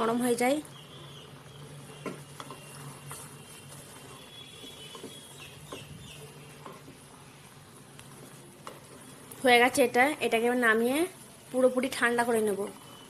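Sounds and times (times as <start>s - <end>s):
spatula stirring boiling syrup: 0.0s - 13.0s.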